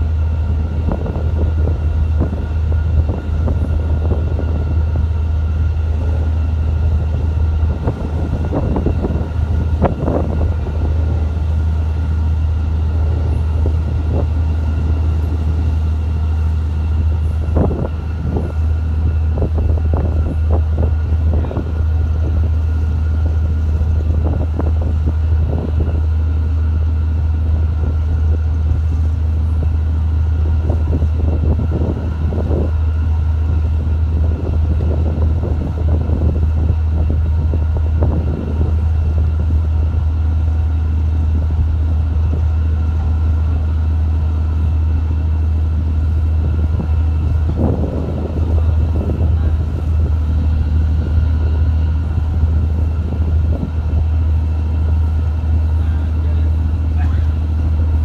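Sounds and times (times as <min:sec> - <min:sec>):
boat diesel engine droning: 0:00.0 - 0:58.0.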